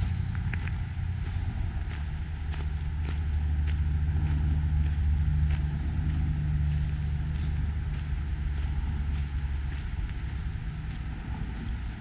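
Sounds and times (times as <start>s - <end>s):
footsteps on gravel: 0.0s - 12.0s
road traffic rumble: 0.0s - 12.0s.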